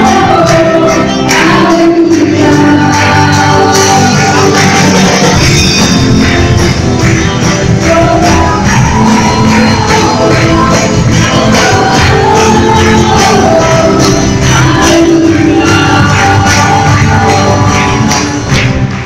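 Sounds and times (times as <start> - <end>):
women singing gospel song: 0.0 - 4.9, 7.8 - 18.3
musical accompaniment with beat: 0.0 - 19.0.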